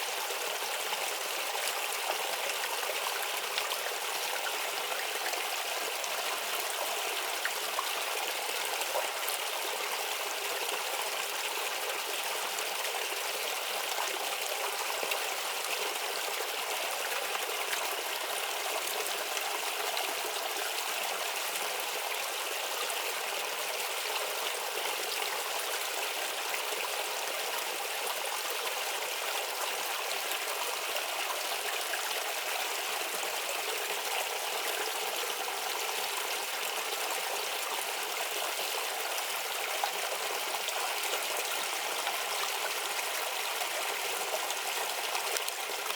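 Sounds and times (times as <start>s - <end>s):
brook babbling over stones: 0.0s - 45.9s.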